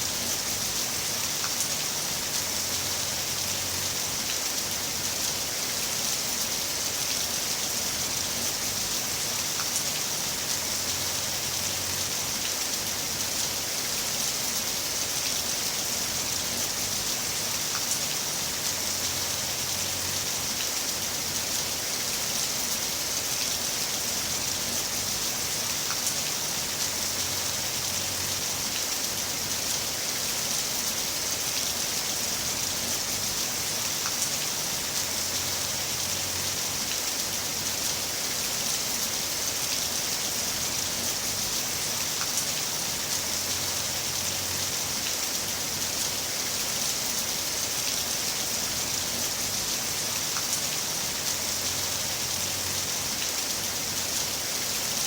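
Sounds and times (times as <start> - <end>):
heavy rain hissing: 0.0 - 55.0
rain drops ticking: 0.1 - 55.0.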